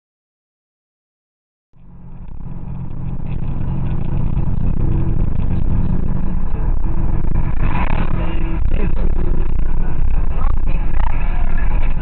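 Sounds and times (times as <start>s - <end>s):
car engine and tyre noise: 1.8s - 12.0s.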